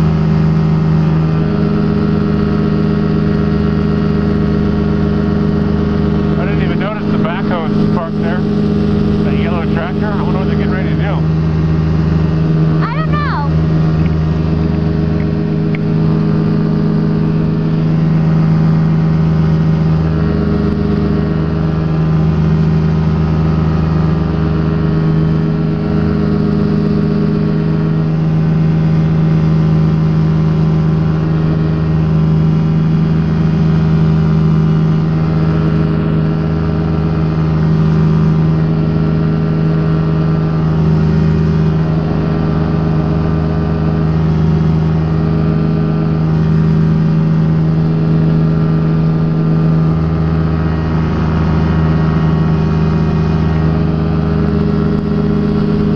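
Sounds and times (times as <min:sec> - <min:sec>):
ultralight aircraft engine droning: 0:00.0 - 0:55.9.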